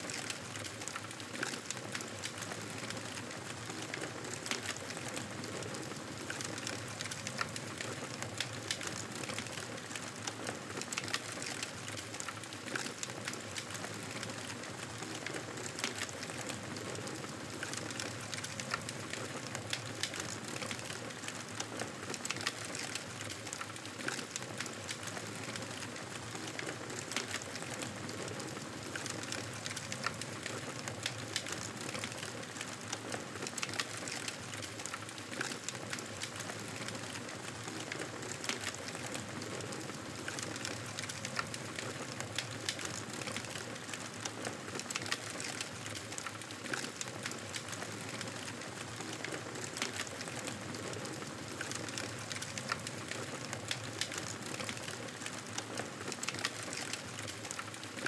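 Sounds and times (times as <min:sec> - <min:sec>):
campfire crackling and popping: 0:06.2 - 0:58.0.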